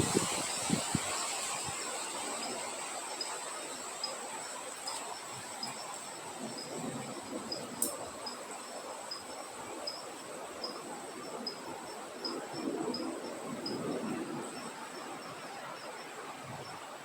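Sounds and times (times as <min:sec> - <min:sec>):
high insect trill: 0:00.0 - 0:16.8
cricket chirping: 0:00.0 - 0:17.0
wind hiss: 0:00.0 - 0:17.0.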